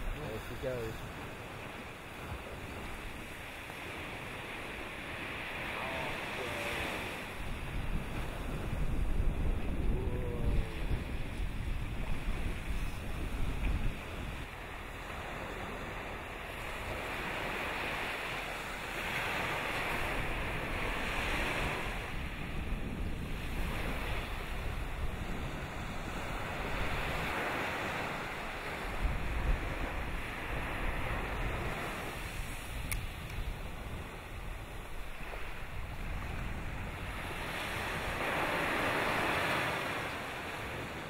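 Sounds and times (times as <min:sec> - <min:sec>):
rushing wind: 0:00.0 - 0:41.0
surf-like noise: 0:00.0 - 0:41.0
wind buffeting microphone: 0:00.0 - 0:41.0.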